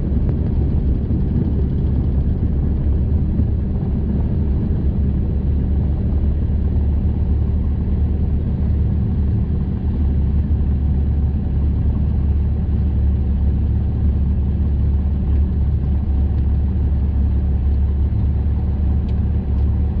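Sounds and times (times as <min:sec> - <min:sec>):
propeller airplane engine running: 0:00.0 - 0:20.0.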